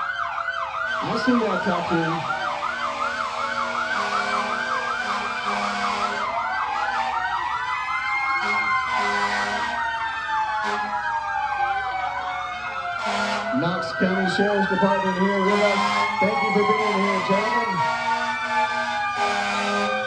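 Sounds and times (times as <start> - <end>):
low siren tone: 0.0 - 20.0
siren fast yelp: 0.0 - 20.0
siren slow wail: 0.0 - 20.0.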